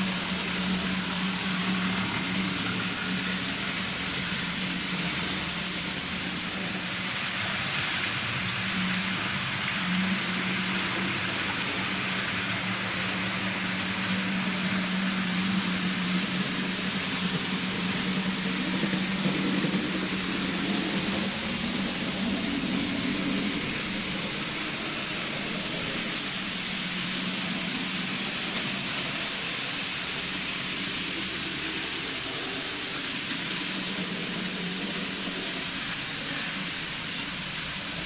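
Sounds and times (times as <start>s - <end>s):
model train wheels on track: 0.0s - 38.0s.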